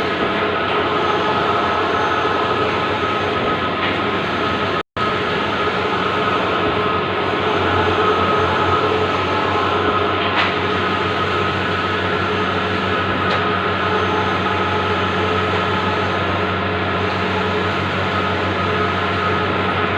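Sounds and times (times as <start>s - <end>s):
printer machine hum and whir: 0.0s - 19.9s.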